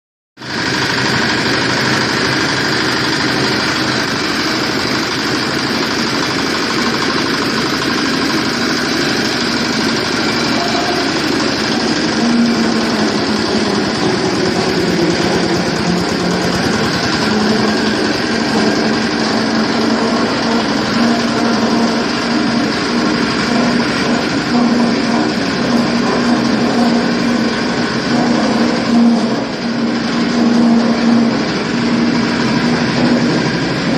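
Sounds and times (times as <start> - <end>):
diesel engine running: 0.4 - 33.9
low hum: 3.4 - 33.9.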